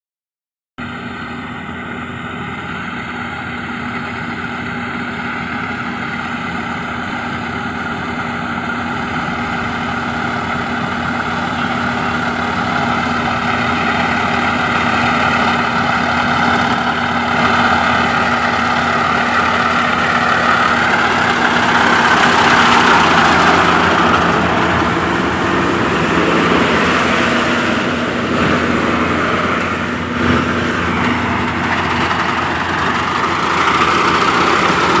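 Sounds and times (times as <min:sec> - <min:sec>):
diesel engine running: 0:00.8 - 0:35.0
broad rushing noise: 0:02.6 - 0:35.0.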